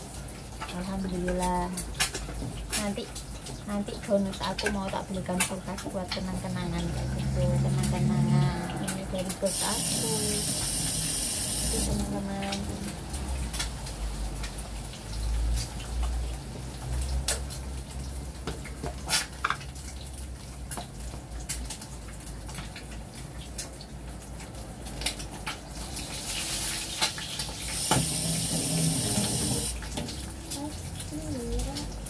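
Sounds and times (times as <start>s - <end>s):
kitchen tap running: 0.0s - 32.0s.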